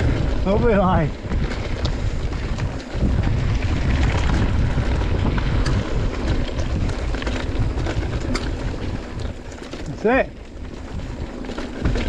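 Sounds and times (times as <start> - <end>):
bike clicks and rattles: 0.0 - 12.0
tyre noise on trail: 0.0 - 12.0
wind rushing over microphone: 0.0 - 12.0.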